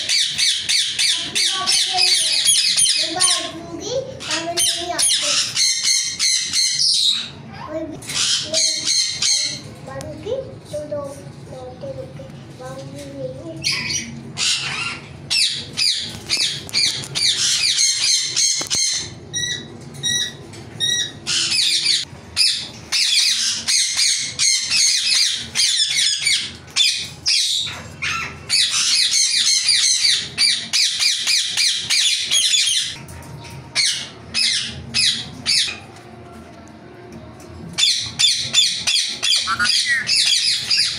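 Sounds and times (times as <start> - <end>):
parakeet screeching: 0.0 - 9.7, 13.6 - 33.0, 33.8 - 35.8, 37.8 - 40.9.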